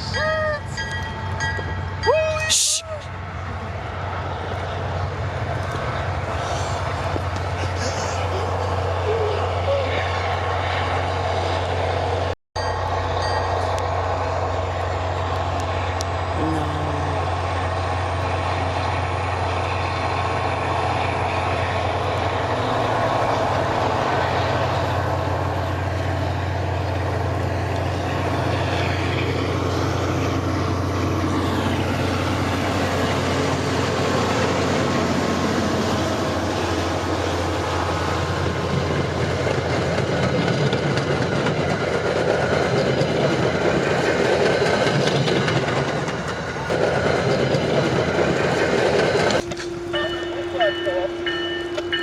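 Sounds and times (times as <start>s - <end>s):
diesel locomotive drone: 0.0s - 52.0s
train wheels on rail: 0.0s - 52.0s.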